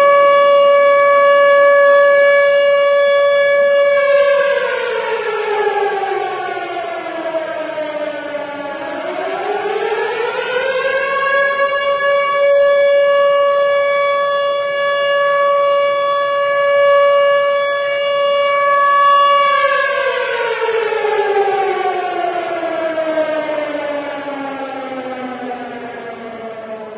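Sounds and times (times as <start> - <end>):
civil defense siren wailing: 0.0 - 26.9.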